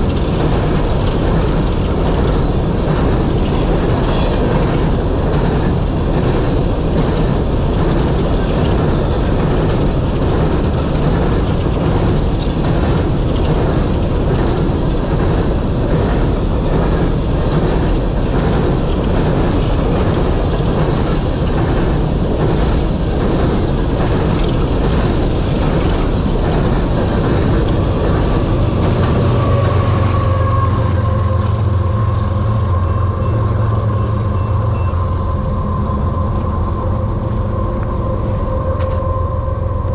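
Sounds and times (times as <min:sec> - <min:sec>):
train wheels clicking over rail joints: 0:00.0 - 0:34.7
diesel locomotive engine drone: 0:00.0 - 0:39.9
rumble of train cars rolling: 0:00.0 - 0:39.9.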